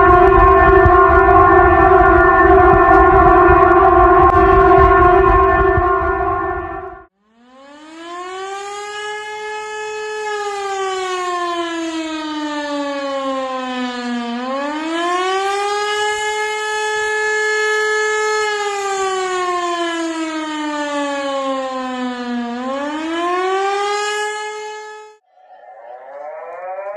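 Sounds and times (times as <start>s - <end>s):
civil defense siren wailing: 0.0s - 26.9s
loud steady alarm tone: 0.0s - 26.9s.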